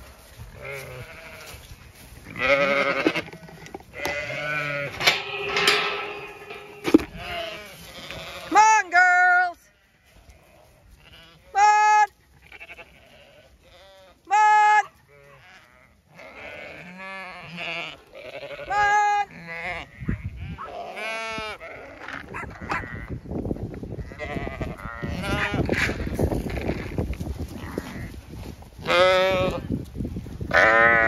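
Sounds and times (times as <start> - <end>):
sheep bleating: 0.6 - 1.6, 2.3 - 23.1, 24.0 - 25.7, 28.8 - 29.7, 30.5 - 31.0.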